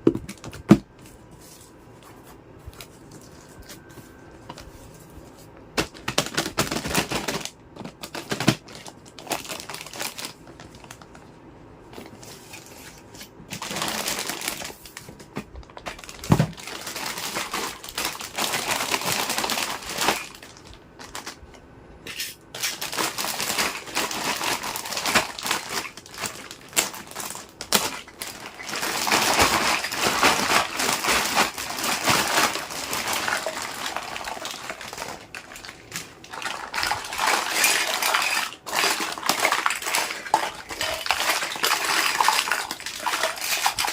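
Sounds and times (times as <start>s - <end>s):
plastic wrap crinkling: 1.5s - 11.3s, 11.9s - 21.5s, 22.5s - 43.9s.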